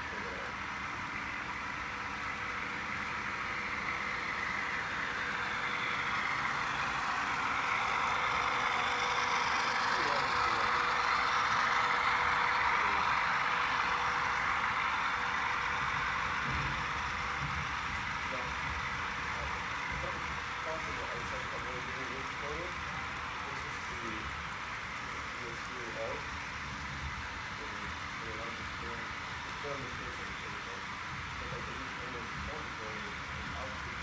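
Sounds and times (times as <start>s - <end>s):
faint motor hum: 0.0s - 34.0s
model train rolling along track: 0.0s - 34.0s.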